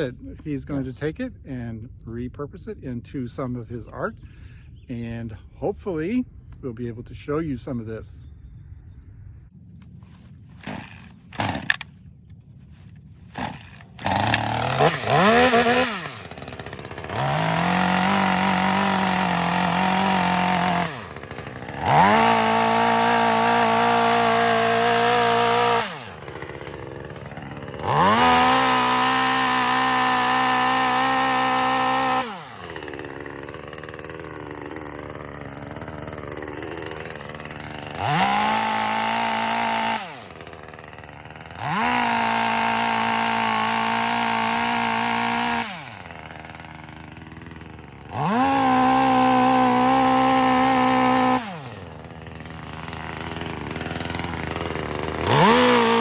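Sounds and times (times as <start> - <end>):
chainsaw engine revving: 10.0 - 56.0.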